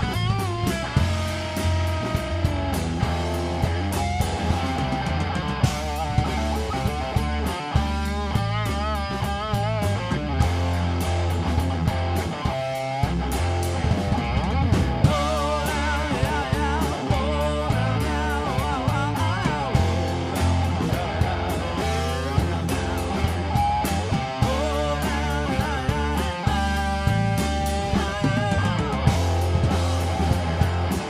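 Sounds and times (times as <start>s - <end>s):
drum kit with cymbals: 0.0s - 31.0s
electric bass guitar: 0.0s - 31.0s
electric guitar: 0.0s - 31.0s.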